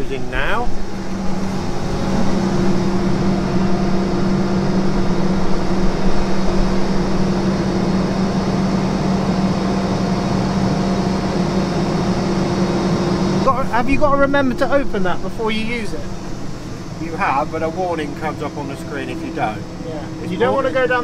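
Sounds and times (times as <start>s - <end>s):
combine harvester hum: 0.0s - 21.0s.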